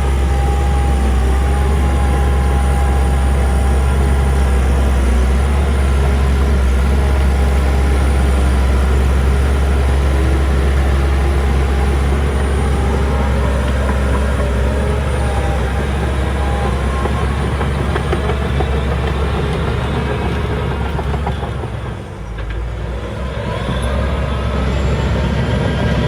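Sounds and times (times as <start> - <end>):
heavy diesel engine drone: 0.0 - 26.0.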